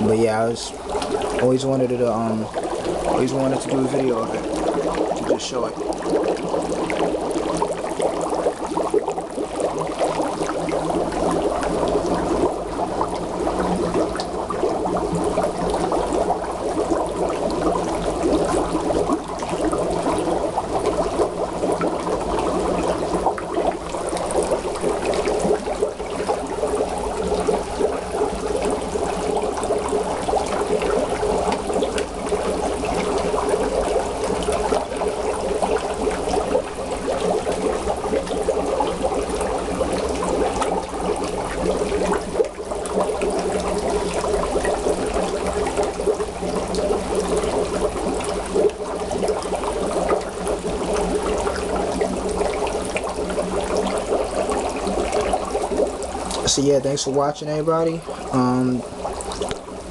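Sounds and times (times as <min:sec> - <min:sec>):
dry ice bubbling in water: 0:00.0 - 0:59.9.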